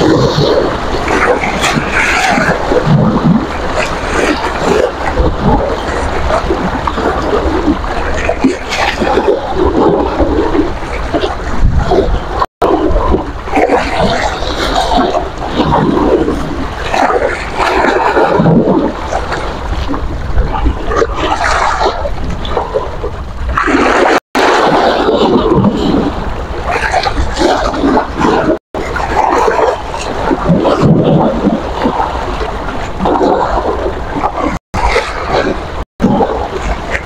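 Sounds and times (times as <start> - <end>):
sea waves splashing on shore: 0.0 - 37.0
wind buffeting microphone: 0.0 - 37.0.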